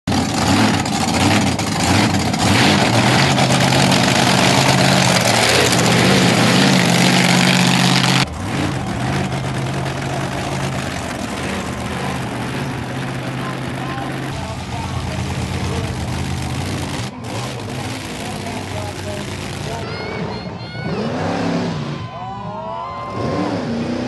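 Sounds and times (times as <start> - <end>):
truck engine running rough: 0.0 - 24.0.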